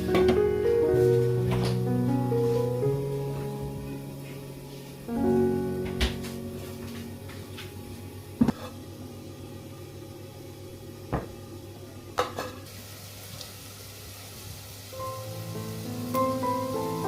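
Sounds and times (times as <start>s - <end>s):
faint sizzling: 0.0s - 17.0s.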